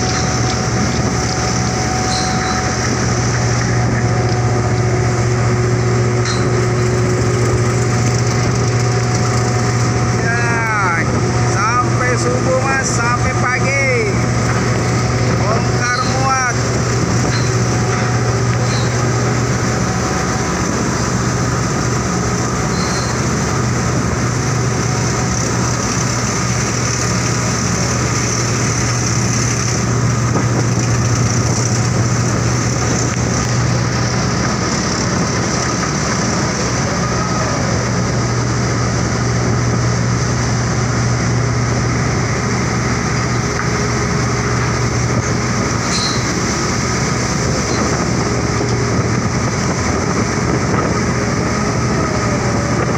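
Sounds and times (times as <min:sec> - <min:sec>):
crane machinery droning: 0:00.0 - 0:52.9.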